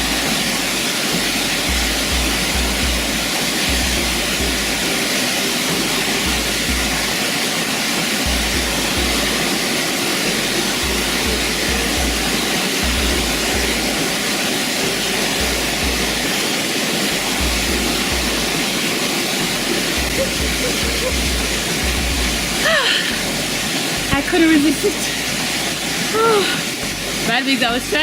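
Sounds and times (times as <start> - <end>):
music with deep bass: 0.0 - 28.0
waterfall rushing: 0.0 - 28.0.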